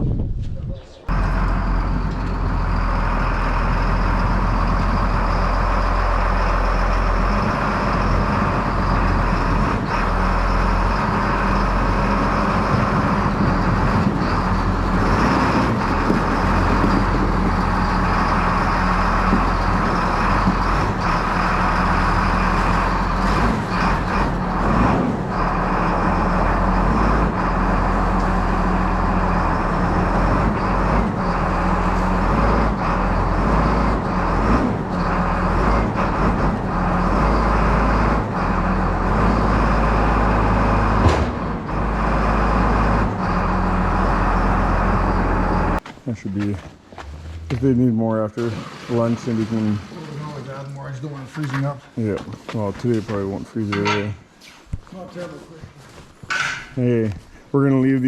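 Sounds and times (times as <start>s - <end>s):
vehicle engine running: 1.1s - 48.3s.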